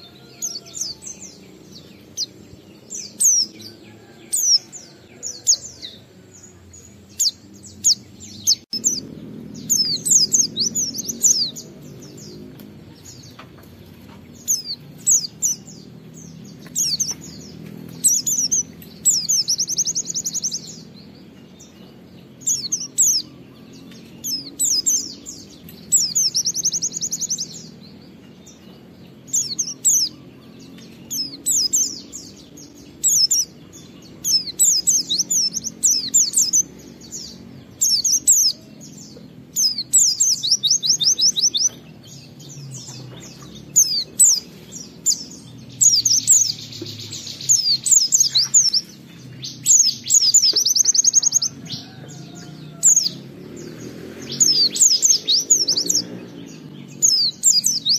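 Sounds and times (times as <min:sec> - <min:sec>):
bird twittering song: 0:00.0 - 0:57.9.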